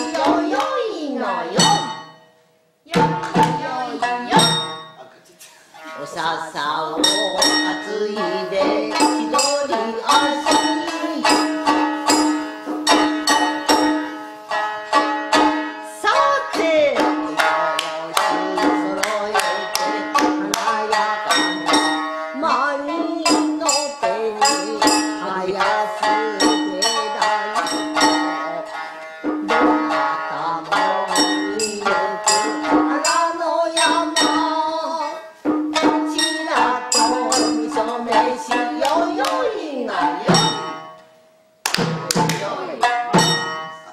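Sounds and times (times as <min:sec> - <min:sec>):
person singing: 0:00.0 - 0:02.1, 0:02.9 - 0:04.8, 0:05.8 - 0:14.3, 0:14.9 - 0:41.0, 0:41.8 - 0:43.9
shamisen plucked: 0:00.0 - 0:02.3, 0:02.9 - 0:05.1, 0:05.8 - 0:41.1, 0:41.7 - 0:43.9.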